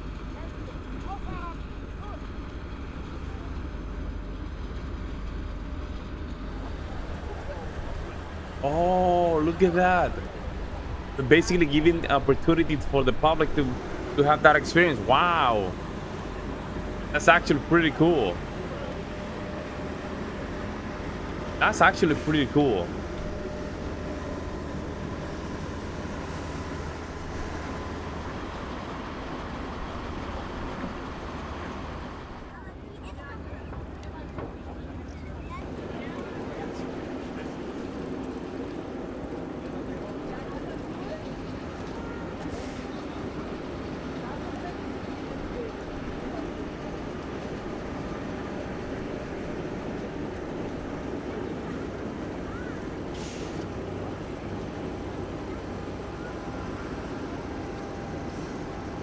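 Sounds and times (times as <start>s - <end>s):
heavy vehicle engine running: 0.0s - 59.0s.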